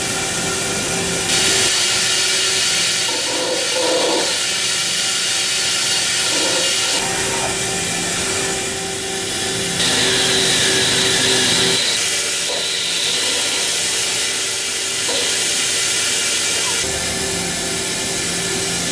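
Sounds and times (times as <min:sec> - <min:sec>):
machine whine: 0:00.0 - 0:18.9.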